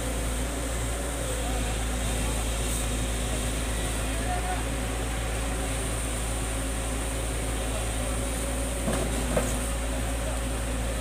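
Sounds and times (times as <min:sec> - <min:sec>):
heavy diesel engines running: 0:00.0 - 0:11.0.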